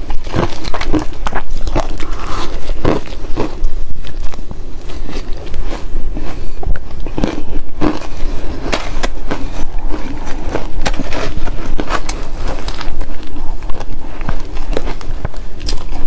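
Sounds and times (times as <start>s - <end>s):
ice crunching being chewed: 0.0s - 16.0s.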